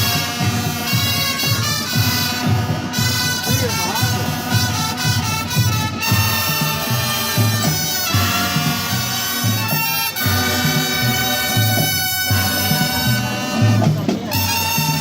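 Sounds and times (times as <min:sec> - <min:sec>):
marching brass band playing: 0:00.0 - 0:15.0.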